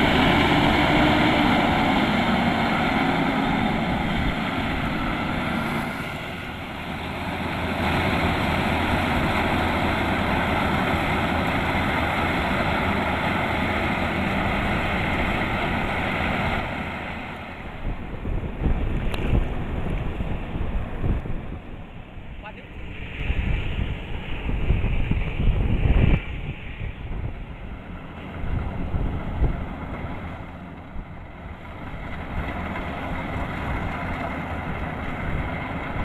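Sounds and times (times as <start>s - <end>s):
combine harvester running: 0.0s - 36.0s
wind buffeting microphone: 0.0s - 36.0s.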